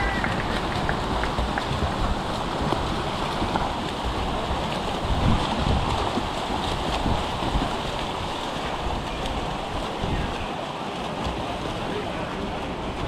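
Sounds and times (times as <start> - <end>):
wind rumbling on microphone: 0.0 - 10.6
pool water rushing: 0.0 - 13.0.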